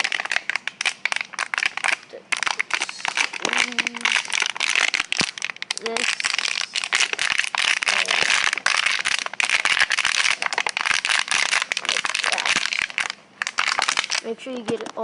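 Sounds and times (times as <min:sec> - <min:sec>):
plastic bottle crinkling: 0:00.0 - 0:15.0.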